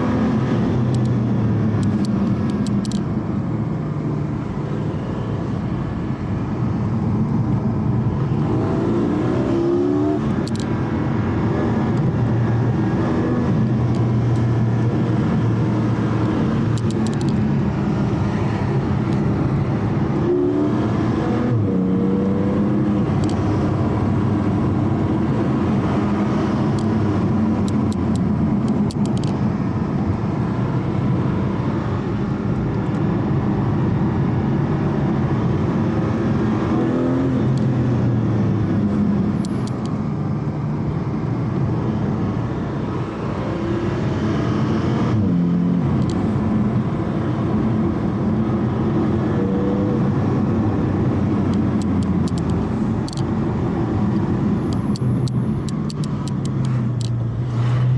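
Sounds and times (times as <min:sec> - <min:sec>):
road and tyre noise: 0:00.0 - 0:57.9.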